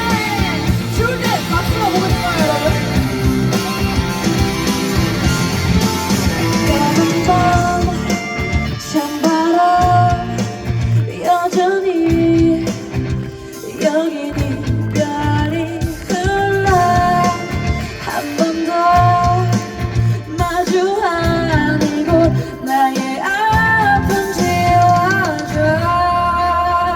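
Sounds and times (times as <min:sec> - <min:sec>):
live pop-rock band: 0:00.0 - 0:26.9
person singing: 0:00.0 - 0:26.9.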